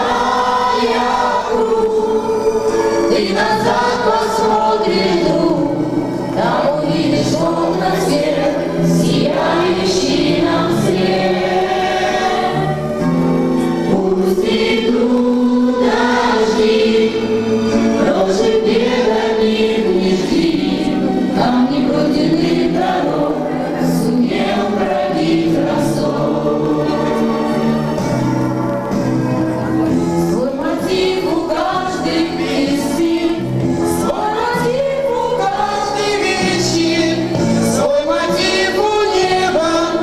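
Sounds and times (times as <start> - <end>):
group of voices singing: 0.0 - 28.4, 30.2 - 40.0.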